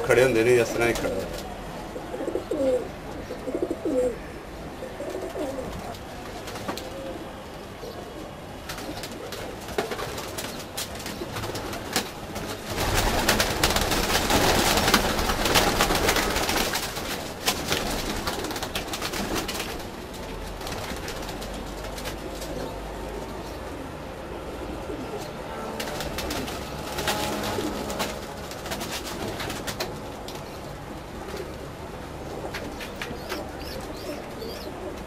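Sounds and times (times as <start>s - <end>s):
pigeons cooing: 0.7s - 16.8s, 20.2s - 35.0s.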